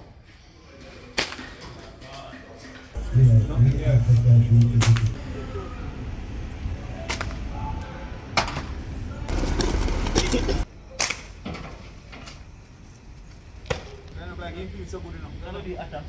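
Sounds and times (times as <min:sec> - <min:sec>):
street noise: 0:02.6 - 0:16.0.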